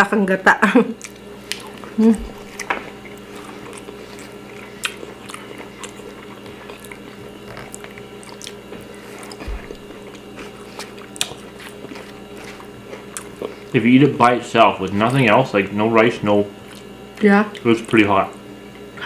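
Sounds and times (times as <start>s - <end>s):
people chewing food: 0.0s - 19.0s
steady low hum: 0.0s - 19.0s.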